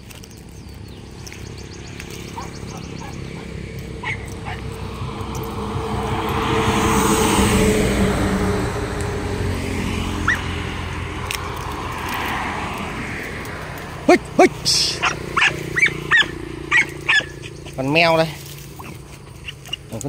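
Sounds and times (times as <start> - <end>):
traffic passing on highway: 0.0 - 20.0.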